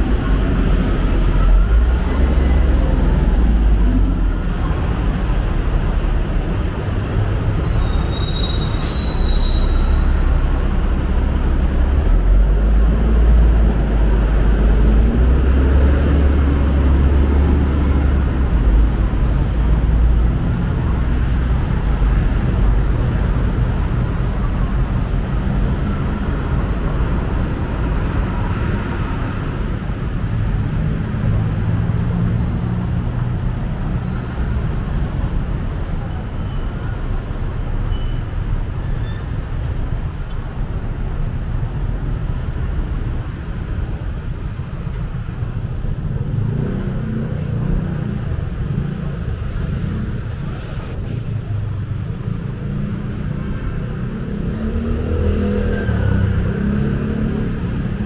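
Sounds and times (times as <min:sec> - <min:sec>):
city street traffic rumble: 0:00.0 - 0:58.0.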